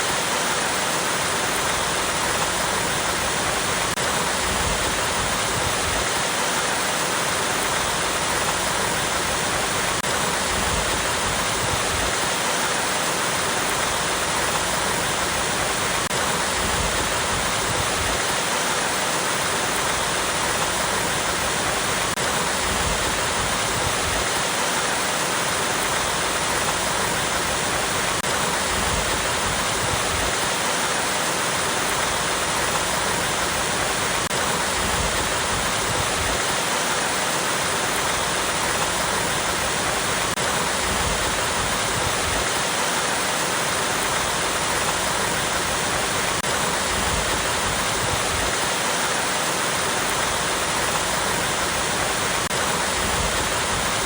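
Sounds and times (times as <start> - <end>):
waterfall over rocks: 0.0 - 54.0.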